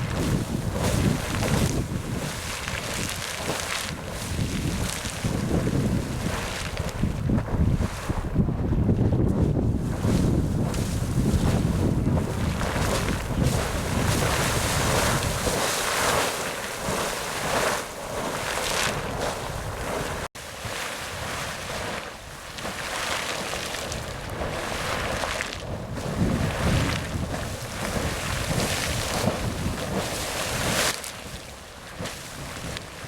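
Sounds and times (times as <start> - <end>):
geyser splashing water: 0.0 - 8.3, 9.9 - 33.0
wind rumble on microphone: 0.0 - 33.0.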